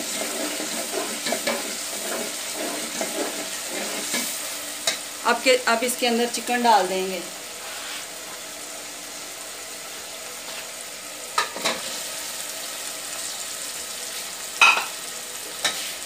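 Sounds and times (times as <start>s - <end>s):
masala sizzling in metal pot: 0.0s - 16.0s.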